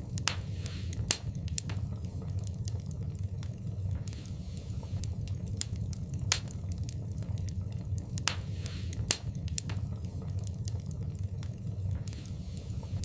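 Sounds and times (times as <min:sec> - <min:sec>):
low rumble of fire: 0:00.0 - 0:13.0
sharp pops of burning wood: 0:00.0 - 0:13.0
wood fire crackling: 0:00.0 - 0:13.0.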